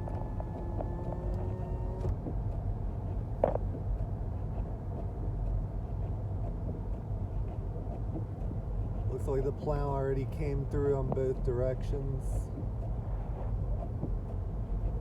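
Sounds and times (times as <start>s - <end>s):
car rumble from inside cabin: 0.0s - 15.0s.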